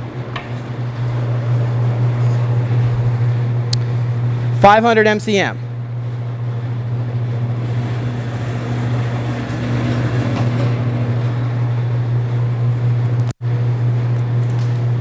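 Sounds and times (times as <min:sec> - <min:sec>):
wire stripping machine humming: 0:00.0 - 0:15.0.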